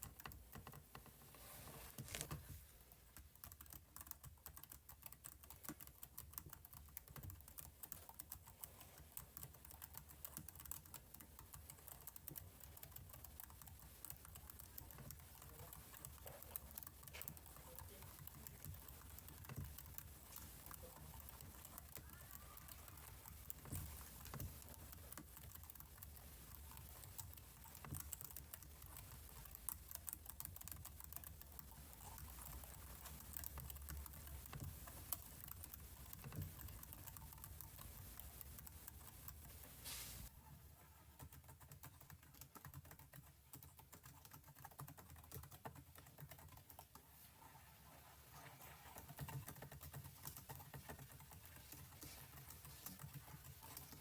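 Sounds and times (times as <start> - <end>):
computer keyboard typing: 0.0 - 1.2, 2.0 - 39.8, 41.2 - 47.0, 48.6 - 54.0.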